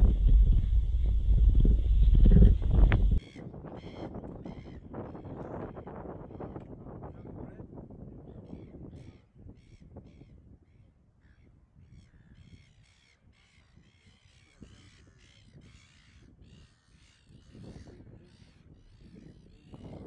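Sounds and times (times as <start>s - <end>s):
low rumble of wind: 0.0s - 20.0s.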